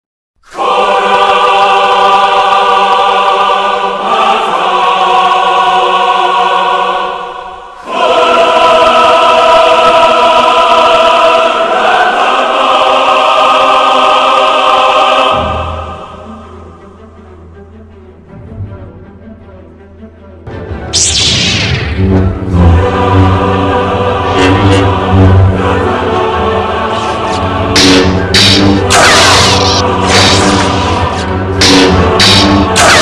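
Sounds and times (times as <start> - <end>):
choir singing held chords: 0.4 - 17.9, 20.5 - 33.0.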